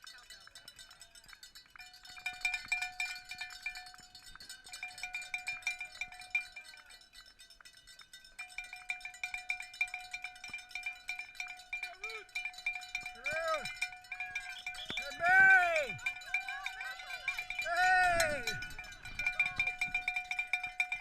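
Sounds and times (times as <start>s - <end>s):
cowbell shaken rapidly: 0.0s - 21.0s.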